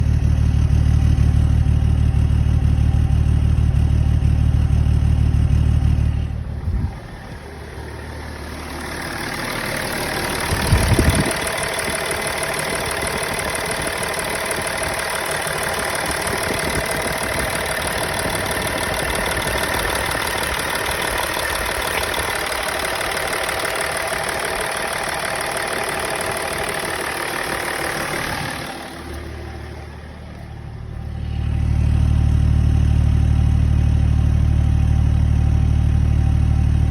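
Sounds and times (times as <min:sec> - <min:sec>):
car engine idling with misfire: 0:00.0 - 0:36.9.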